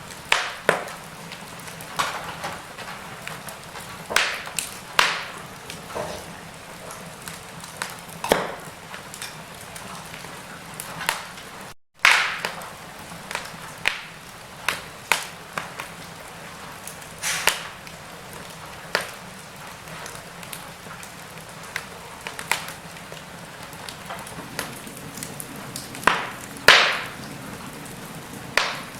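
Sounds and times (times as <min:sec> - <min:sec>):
fire hissing: 0:00.0 - 0:28.9
logs crackling and popping: 0:00.0 - 0:28.9.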